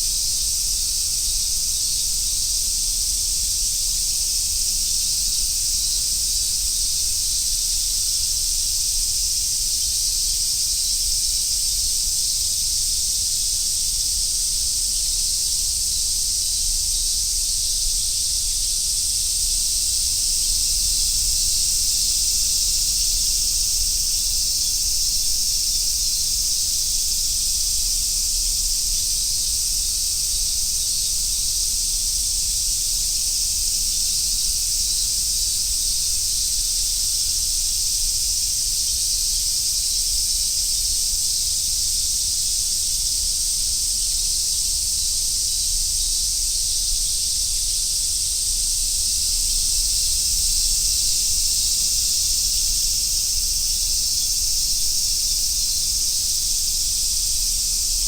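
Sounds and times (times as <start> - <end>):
cicadas chorusing: 0.0 - 58.0.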